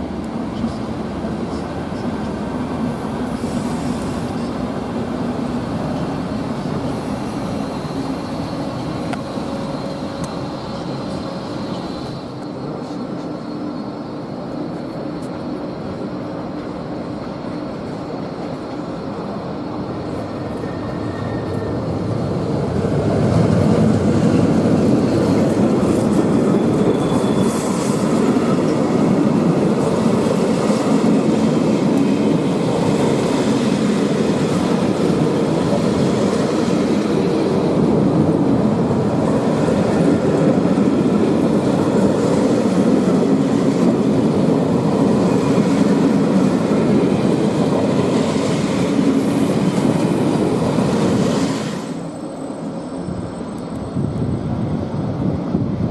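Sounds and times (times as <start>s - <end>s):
train wheels rumbling on tracks: 0.0s - 55.9s.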